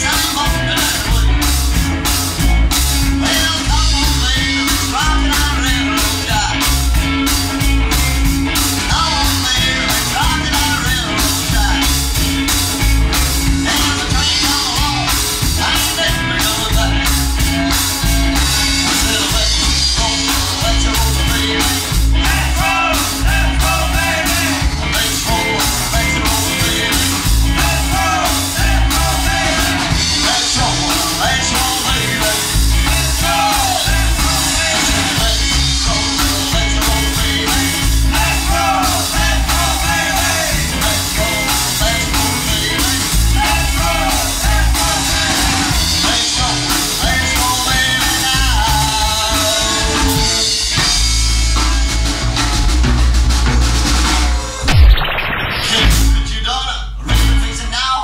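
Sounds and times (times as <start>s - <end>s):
driving drum beat: 0.0s - 57.6s
rock and roll song with singer: 0.0s - 58.0s.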